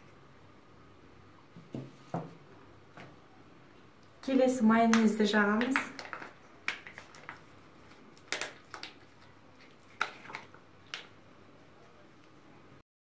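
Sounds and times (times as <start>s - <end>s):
faint room noise: 0.0s - 12.8s.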